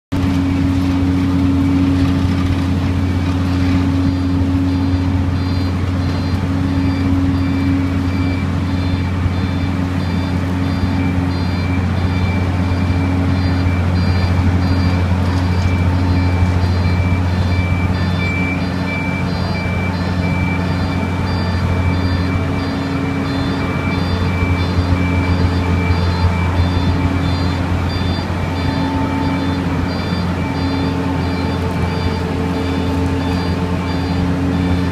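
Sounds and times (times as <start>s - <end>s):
heavy diesel engine under load: 0.0s - 34.9s
reversing alarm beeping: 0.2s - 34.9s.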